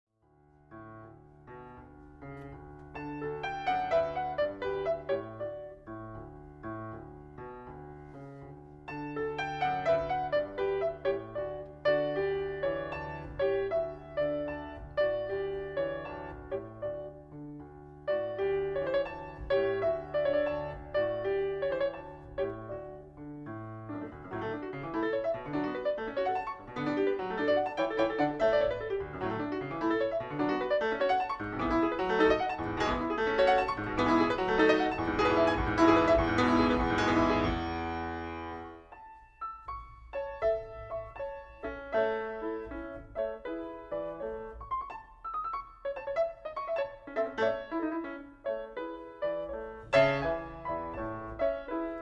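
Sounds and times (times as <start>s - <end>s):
piano music: 0.2s - 52.0s.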